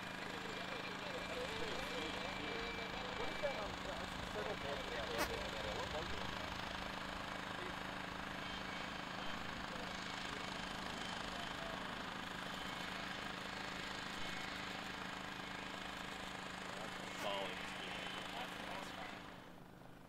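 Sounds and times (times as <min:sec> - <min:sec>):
engines droning: 0:00.0 - 0:19.5.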